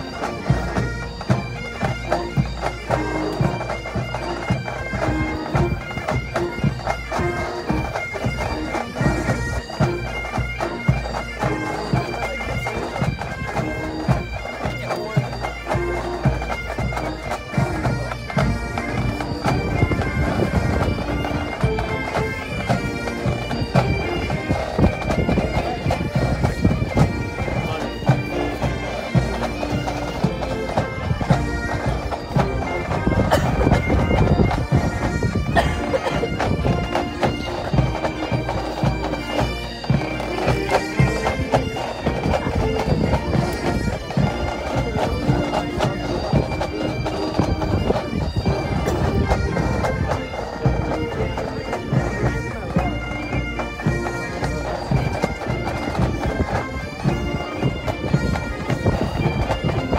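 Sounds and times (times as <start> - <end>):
bagpipe melody with drones: 0.0 - 59.9.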